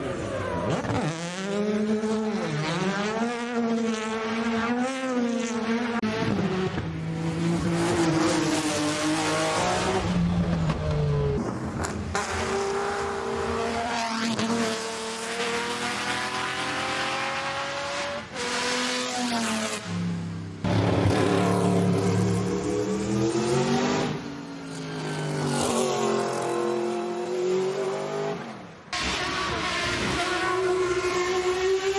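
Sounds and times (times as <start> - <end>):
race car engines revving: 0.0 - 31.9.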